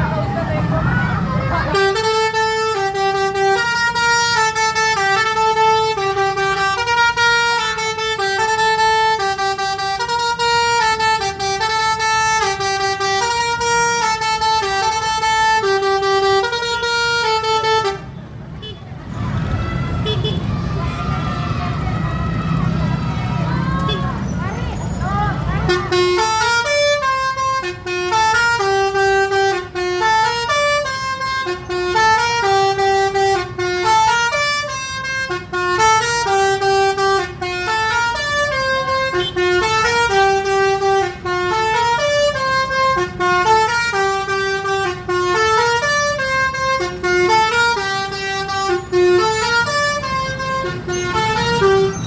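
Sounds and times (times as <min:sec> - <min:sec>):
multi-tone bus horn melody: 0:00.0 - 0:19.0, 0:19.8 - 0:20.7, 0:23.8 - 0:24.2, 0:25.4 - 0:52.0.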